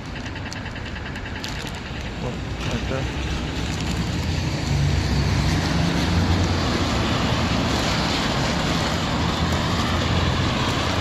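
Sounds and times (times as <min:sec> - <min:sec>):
vehicle engine rumble passing: 0:00.0 - 0:11.0.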